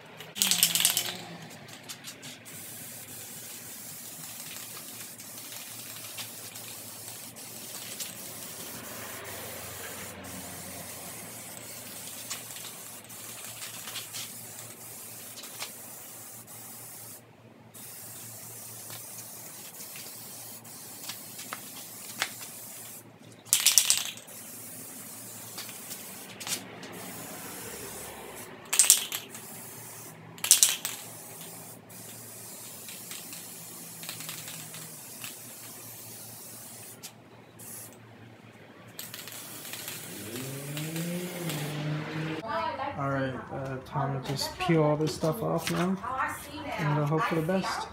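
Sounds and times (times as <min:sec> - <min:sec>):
aerosol can spraying hiss: 0:00.3 - 0:17.2, 0:17.8 - 0:38.0, 0:39.0 - 0:41.9.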